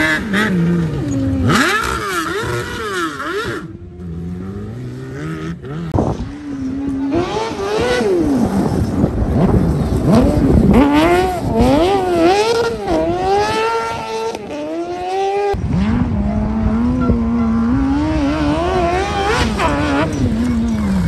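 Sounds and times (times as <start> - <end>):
racing buggy engine revving: 0.0 - 21.0.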